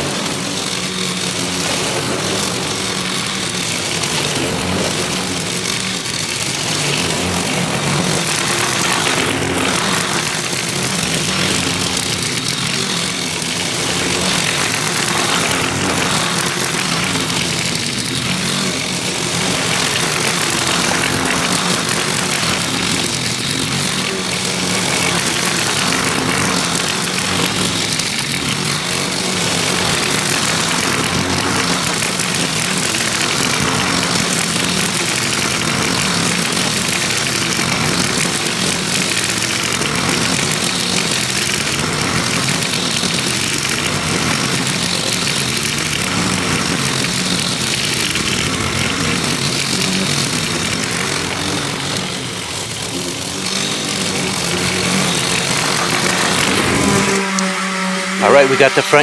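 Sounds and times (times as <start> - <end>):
lawn mower engine cutting grass: 0.0 - 59.0.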